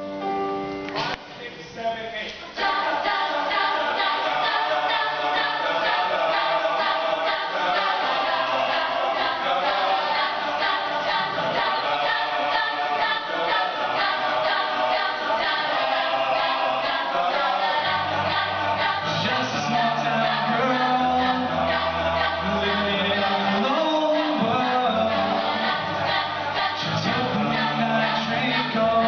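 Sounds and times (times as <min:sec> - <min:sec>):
mixed choir singing: 0:02.5 - 0:29.0.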